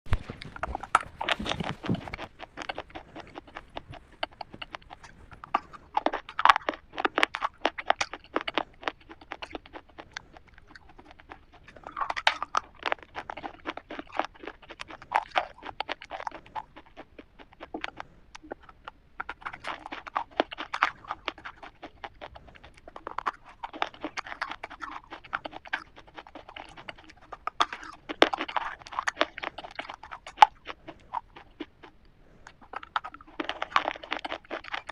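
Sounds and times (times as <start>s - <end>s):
chocolate wafer crunching: 0.1s - 34.9s.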